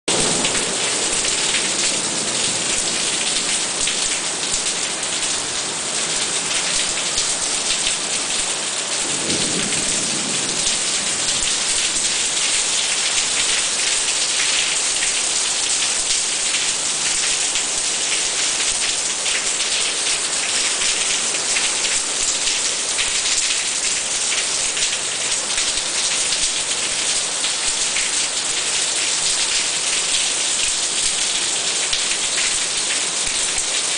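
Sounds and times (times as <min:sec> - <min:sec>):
heavy rain on tiles and roofs: 0:00.0 - 0:33.9.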